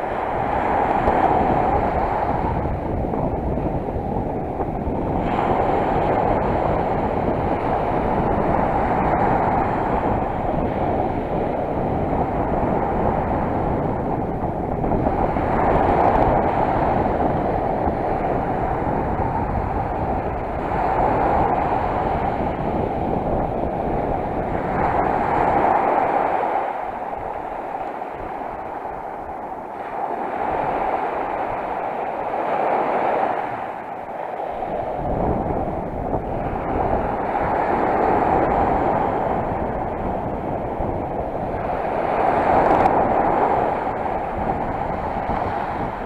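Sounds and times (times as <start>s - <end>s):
sea surf: 0.0s - 46.0s
waves breaking: 0.0s - 46.0s
wind on microphone: 0.0s - 46.0s.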